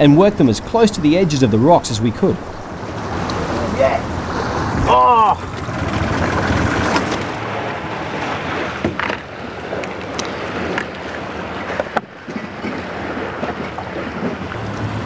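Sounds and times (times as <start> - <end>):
sea water washing around boat: 0.0 - 15.0.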